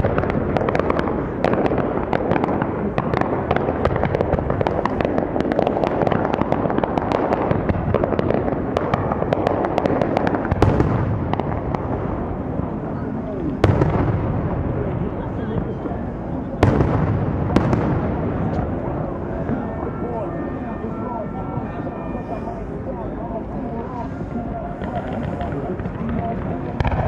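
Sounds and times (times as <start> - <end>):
loud fireworks bangs: 0.0 - 22.5, 23.8 - 27.0
fireworks crackling and popping: 0.0 - 27.0.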